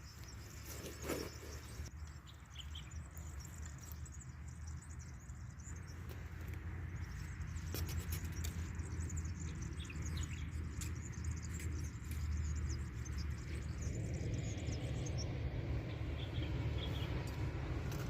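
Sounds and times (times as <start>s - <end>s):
small birds chirping: 0.0s - 18.0s
steady low rumble: 1.3s - 18.0s.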